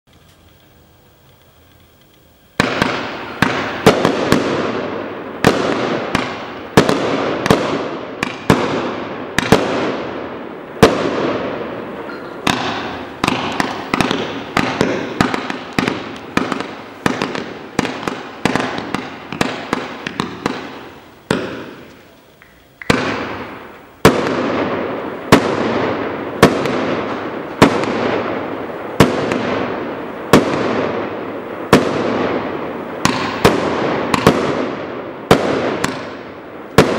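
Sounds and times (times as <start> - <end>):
firework bursts: 0.1 - 36.9
firework cake shots: 0.1 - 36.9.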